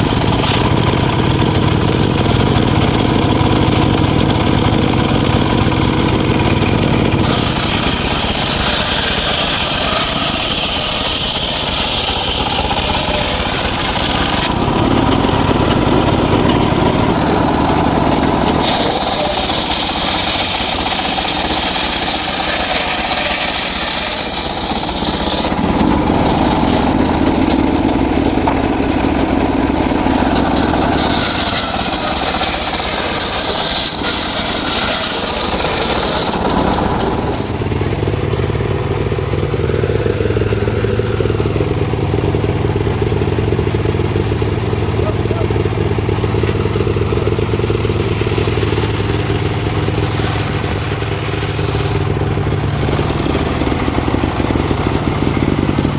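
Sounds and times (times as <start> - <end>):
engine-driven saw cutting wood: 0.0 - 55.9.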